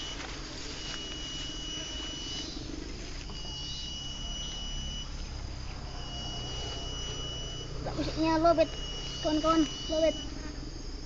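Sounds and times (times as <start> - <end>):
high steady whistle from speaker: 0.0 - 2.7, 3.3 - 10.4.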